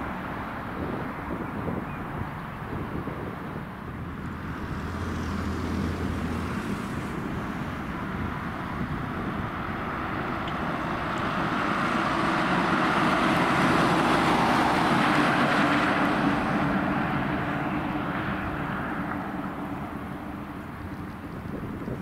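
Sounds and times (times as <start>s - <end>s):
ambulance driving past: 0.0s - 21.4s.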